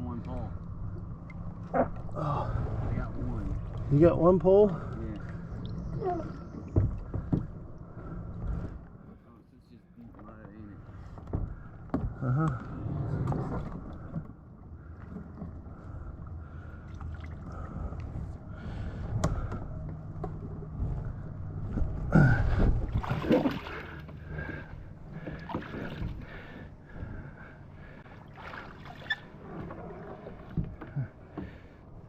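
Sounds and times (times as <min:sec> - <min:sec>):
water splashing around kayak: 0:00.0 - 0:09.1, 0:10.0 - 0:32.0
steady low rumble: 0:00.0 - 0:28.6.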